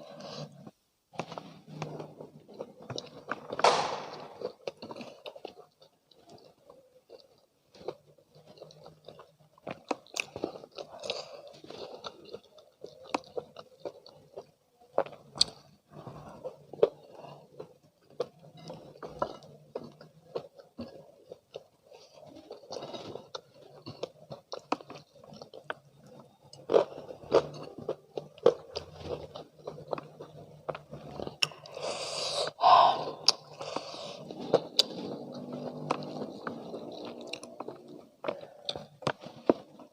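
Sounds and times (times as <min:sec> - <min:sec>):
chewing crispy fried chicken: 0:00.0 - 0:03.6, 0:04.2 - 0:39.9.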